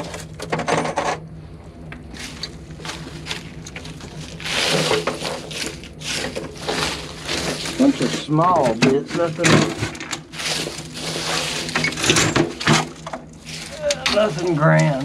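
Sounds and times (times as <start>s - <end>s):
hands rummaging through debris: 2.1s - 15.0s
rustling scrape: 2.1s - 15.0s.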